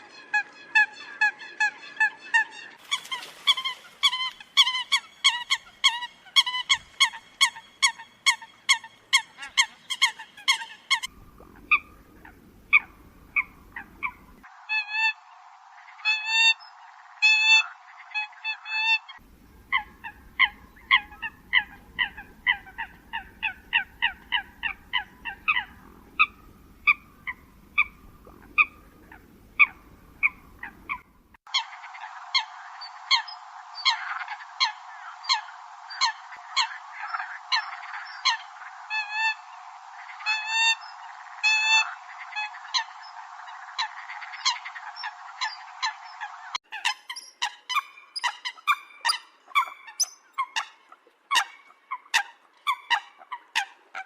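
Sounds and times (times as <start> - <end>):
coots calling: 0.0 - 15.2, 17.2 - 54.0.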